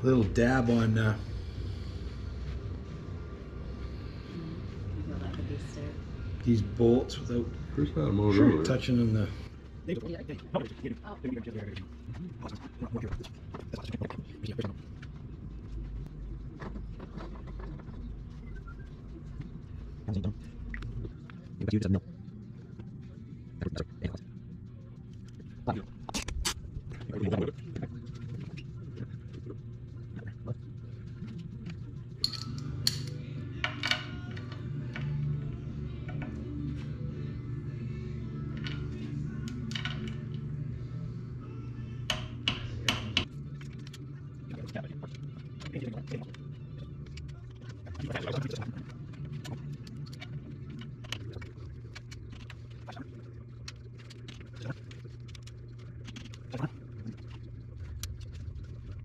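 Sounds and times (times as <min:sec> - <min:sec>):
background music with low beat: 0:00.0 - 0:54.0
steady low hum: 0:00.0 - 0:59.0.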